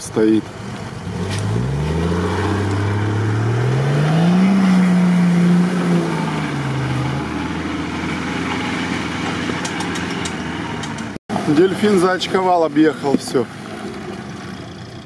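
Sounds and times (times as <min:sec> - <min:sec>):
suv engine revving in mud: 0:00.5 - 0:15.0.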